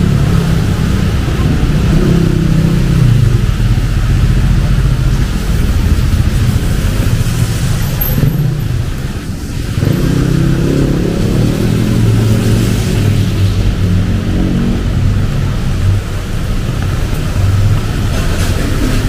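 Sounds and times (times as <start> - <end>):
rain hissing: 0.0 - 19.0
traffic: 0.0 - 19.0
vehicle engine running: 0.0 - 19.0.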